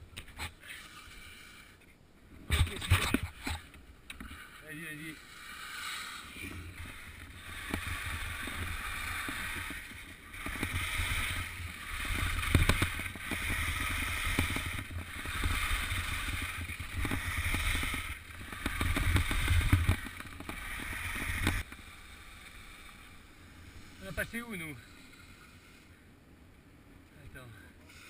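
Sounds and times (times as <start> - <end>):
skis hissing over snow: 0.5 - 1.8, 4.3 - 25.9.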